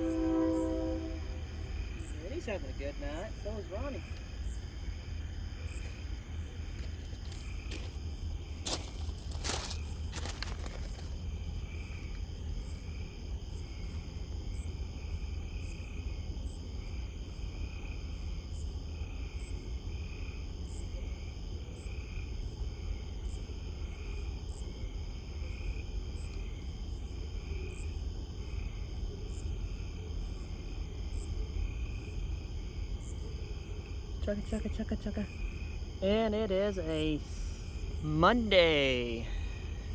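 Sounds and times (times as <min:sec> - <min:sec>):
crickets and insects calling: 0:00.0 - 0:39.9
pulsing insect call: 0:00.0 - 0:39.9.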